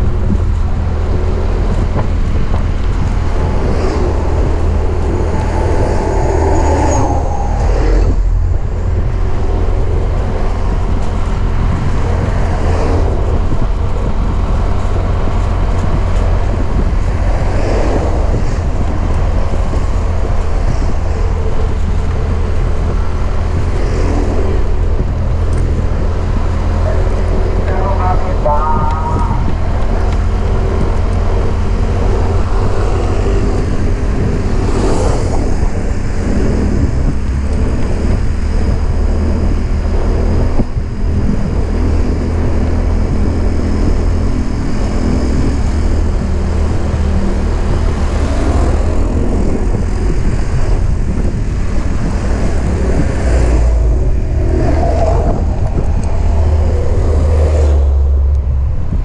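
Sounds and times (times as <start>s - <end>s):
road noise: 0.0s - 59.0s
wind on microphone: 0.0s - 59.0s.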